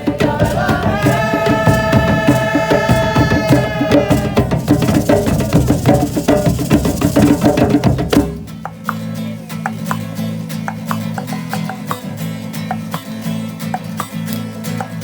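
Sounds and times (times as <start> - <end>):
live band drums and percussion: 0.0 - 15.0.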